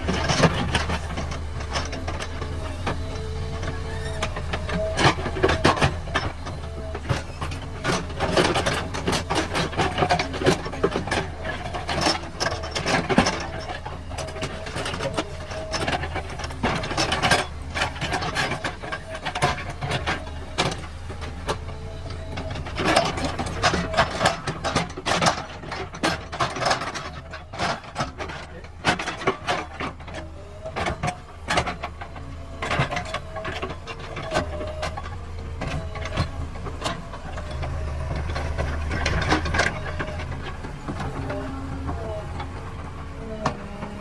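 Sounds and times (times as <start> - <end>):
backhoe diesel engine running: 0.0 - 44.0.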